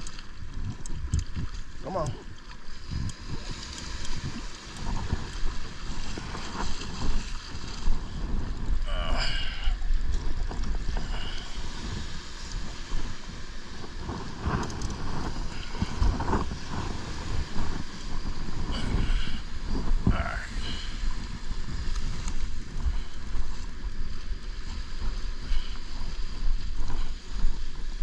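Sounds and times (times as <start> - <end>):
wind buffeting microphone: 0.0 - 28.0
surf breaking on beach: 1.8 - 28.0.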